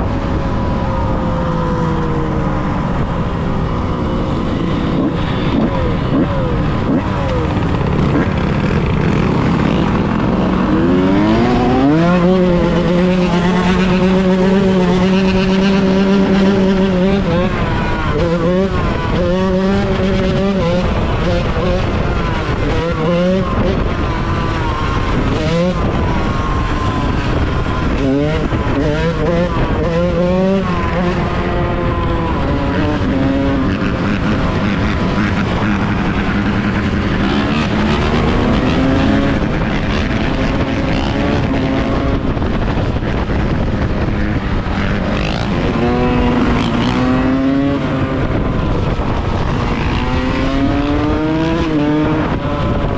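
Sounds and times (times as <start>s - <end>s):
dirt bike engine revving: 2.8s - 52.9s.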